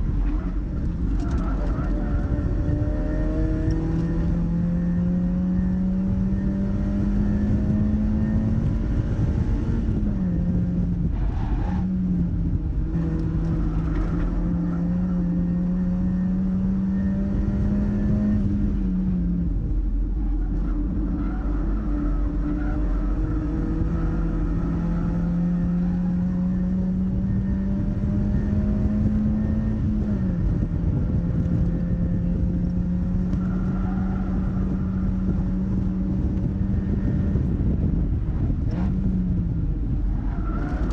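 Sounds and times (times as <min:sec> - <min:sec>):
car engine accelerating: 0:00.0 - 0:40.9
wind and road noise: 0:00.0 - 0:40.9.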